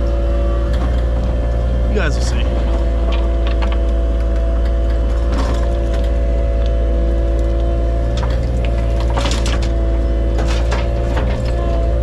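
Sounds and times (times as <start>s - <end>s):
rattles and clanks: 0.0s - 12.0s
truck engine running: 0.0s - 12.0s.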